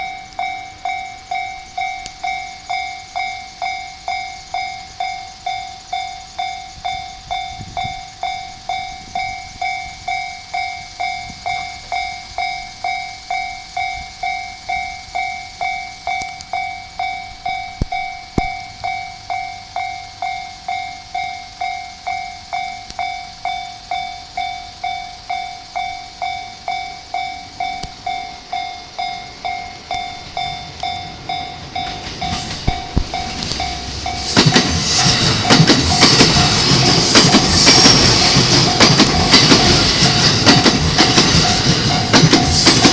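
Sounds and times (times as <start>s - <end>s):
level crossing warning bell ringing: 0.0s - 42.9s.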